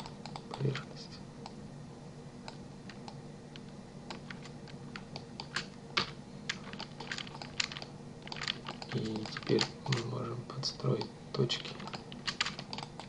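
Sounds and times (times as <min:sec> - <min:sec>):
keyboard and mouse clicks: 0:00.0 - 0:00.8, 0:02.4 - 0:10.1, 0:11.0 - 0:13.0
steady low hum: 0:00.0 - 0:13.0.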